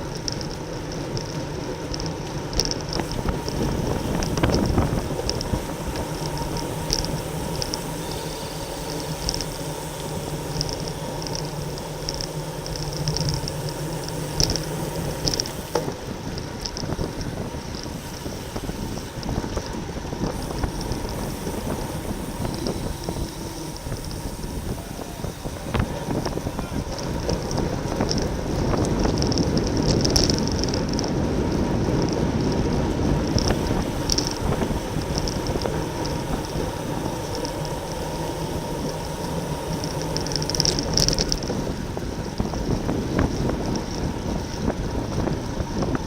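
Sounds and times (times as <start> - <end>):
wind and road noise: 0.0 - 46.0.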